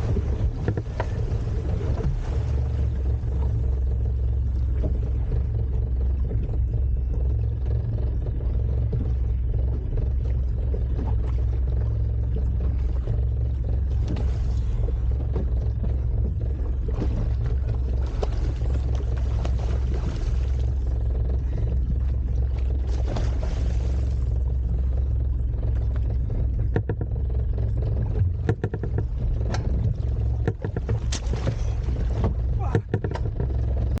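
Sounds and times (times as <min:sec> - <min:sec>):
boat engine rumbling: 0:00.0 - 0:34.0.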